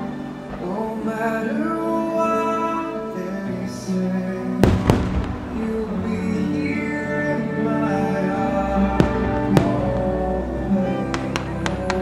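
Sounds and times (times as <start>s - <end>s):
music over loudspeakers: 0.0s - 12.0s.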